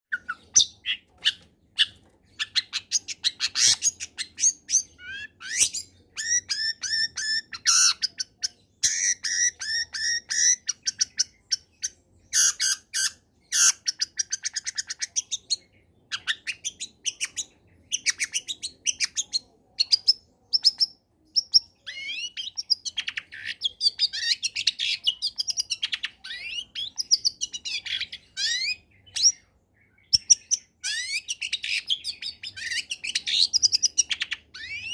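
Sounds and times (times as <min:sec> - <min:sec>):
bird singing varied song: 0:00.1 - 0:34.9.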